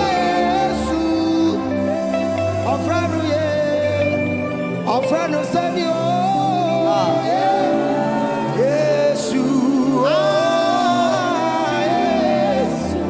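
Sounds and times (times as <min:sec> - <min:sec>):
person singing gospel song: 0:00.0 - 0:13.0.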